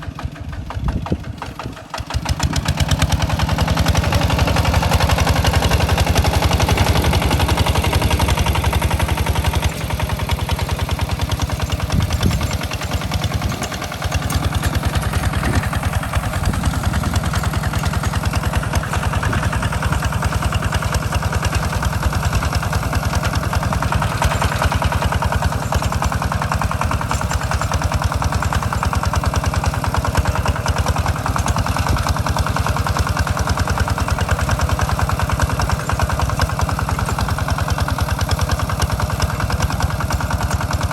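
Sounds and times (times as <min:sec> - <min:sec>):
diesel tractor engine chugging: 0:00.0 - 0:40.9.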